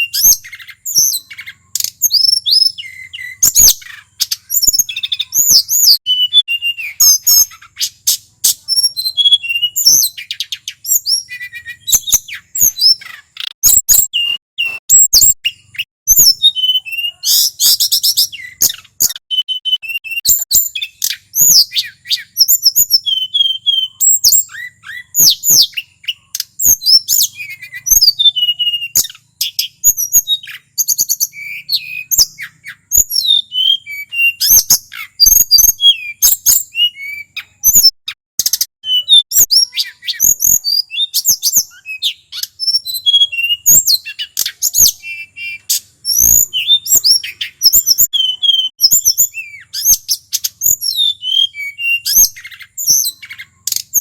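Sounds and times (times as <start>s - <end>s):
bird singing whistled trills: 0.0s - 54.0s.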